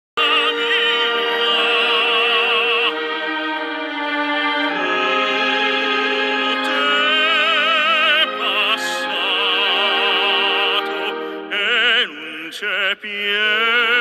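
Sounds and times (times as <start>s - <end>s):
operatic singing: 0.2s - 14.0s
orchestral accompaniment: 0.2s - 14.0s.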